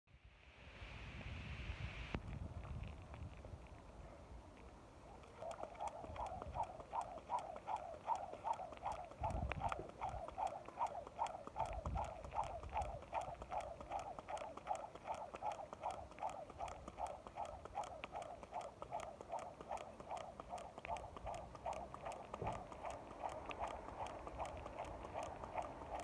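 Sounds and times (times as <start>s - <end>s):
jump rope slapping ground: 5.2s - 26.0s.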